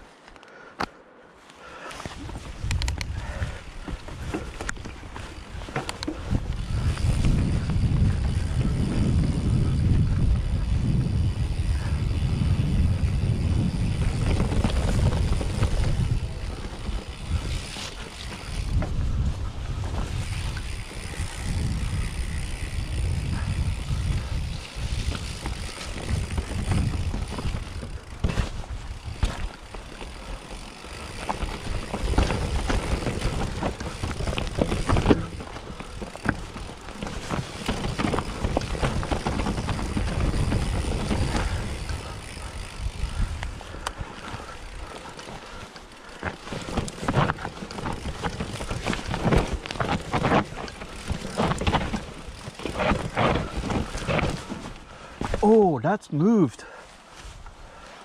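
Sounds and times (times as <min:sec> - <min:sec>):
tyre and trail rumble: 0:01.6 - 0:58.0
bike knocking and rattling: 0:01.8 - 0:55.6
wind buffeting microphone: 0:02.2 - 0:55.4.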